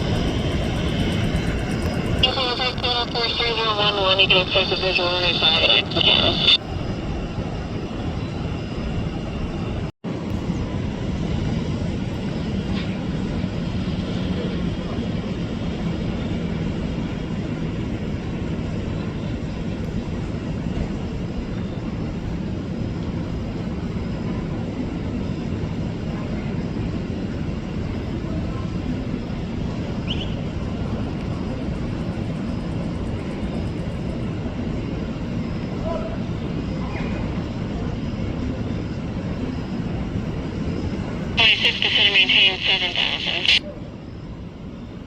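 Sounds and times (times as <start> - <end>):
jet engines running: 0.0 - 45.0.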